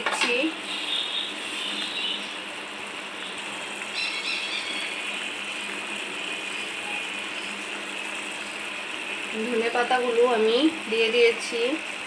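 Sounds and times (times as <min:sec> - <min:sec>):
curry sizzling and crackling in pan: 0:00.0 - 0:12.0.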